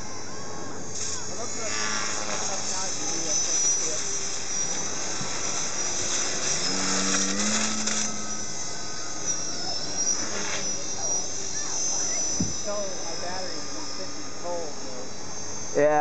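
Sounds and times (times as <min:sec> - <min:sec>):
model plane electric motor whining: 0:00.0 - 0:16.0.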